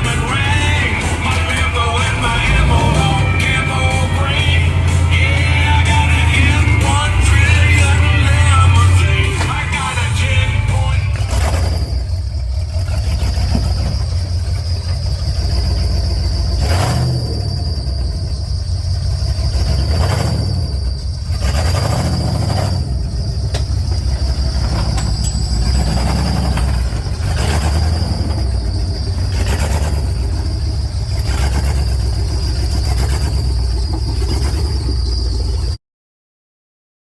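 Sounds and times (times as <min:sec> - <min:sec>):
high-pitched whine: 0:00.0 - 0:35.8
vehicle road and engine rumble: 0:00.0 - 0:35.8.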